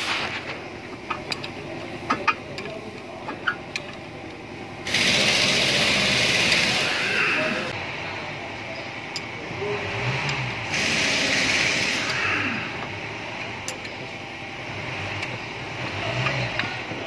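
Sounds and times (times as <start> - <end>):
workshop background noise: 0.0 - 17.0.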